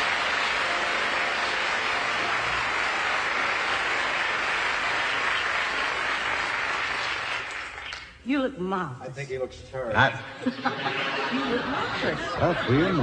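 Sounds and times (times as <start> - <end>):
audience applauding: 0.0 - 8.2, 10.6 - 13.0.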